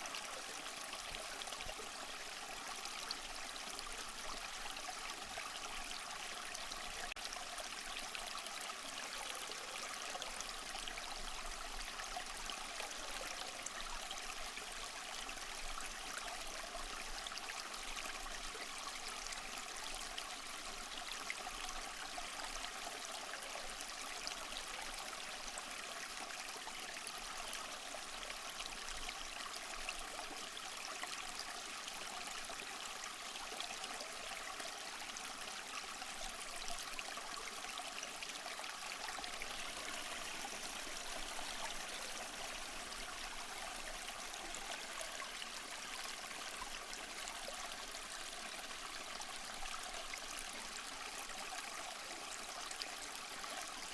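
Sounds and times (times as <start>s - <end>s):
small waterfall splashing: 0.0s - 20.6s, 22.6s - 53.9s.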